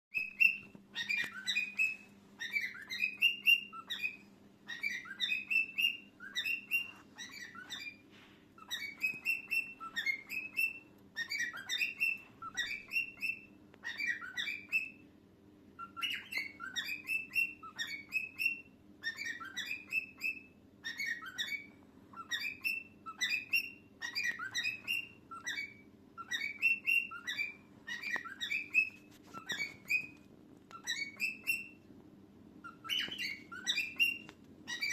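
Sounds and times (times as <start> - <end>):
cockatiel whistling: 0.1 - 15.1, 15.8 - 31.9, 32.6 - 34.9
faint steady hum: 0.1 - 34.9.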